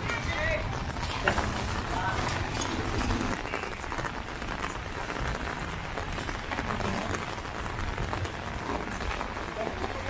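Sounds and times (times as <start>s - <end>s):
rain on wet pavement: 0.0s - 10.0s.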